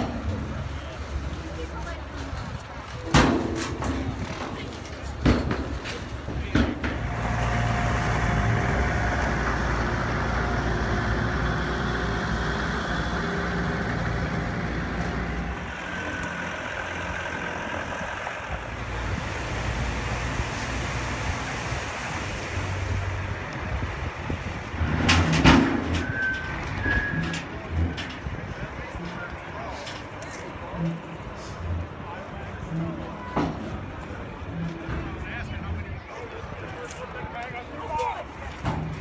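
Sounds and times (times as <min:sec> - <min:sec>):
truck engine running: 0:00.0 - 0:37.2.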